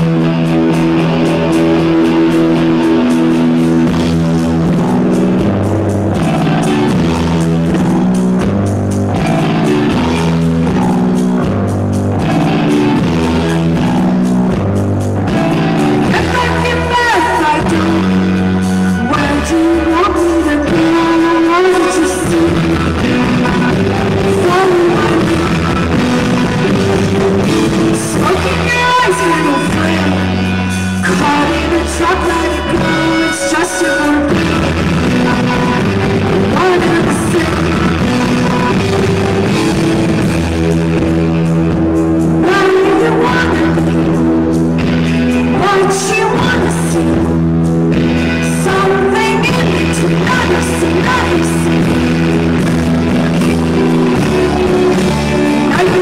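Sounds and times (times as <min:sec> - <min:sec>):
rock song with lead vocal: 0:00.0 - 0:56.0.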